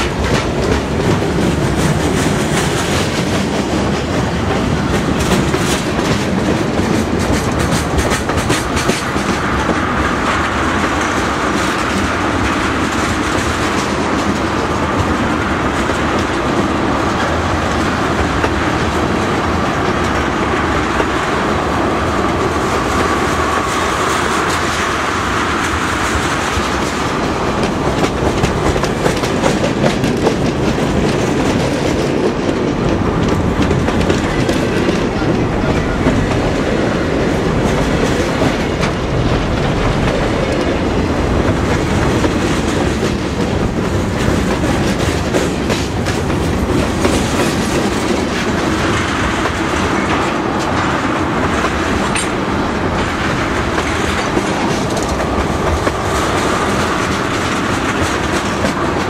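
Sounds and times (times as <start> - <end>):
clickety-clack over rail joints: 0.0 - 59.0
freight train rolling past: 0.0 - 59.0.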